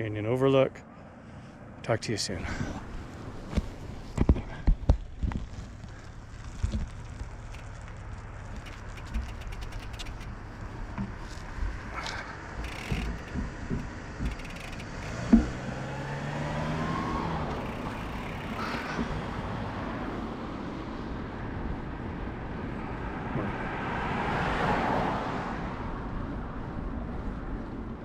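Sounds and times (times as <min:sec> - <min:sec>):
outdoor noise: 0:00.0 - 0:28.0
vehicles passing: 0:00.0 - 0:28.0.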